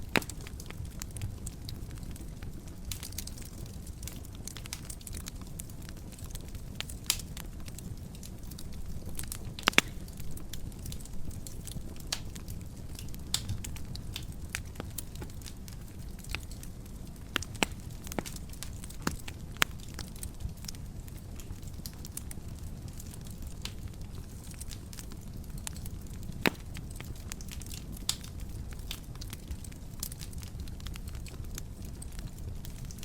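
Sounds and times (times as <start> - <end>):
low rumble of flames: 0.0 - 33.0
wood fire crackles and pops: 0.0 - 33.0.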